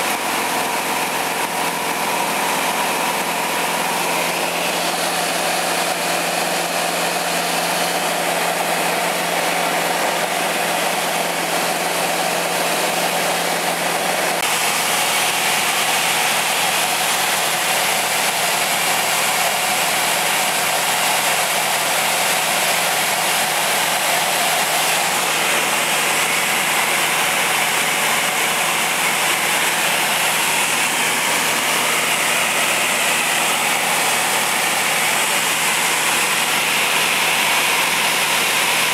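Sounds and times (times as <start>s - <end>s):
propeller airplane engine drone: 0.0s - 38.9s.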